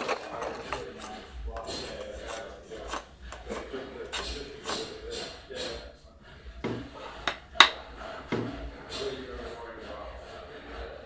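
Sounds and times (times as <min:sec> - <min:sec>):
hand tool scraping wood: 0:00.0 - 0:11.0.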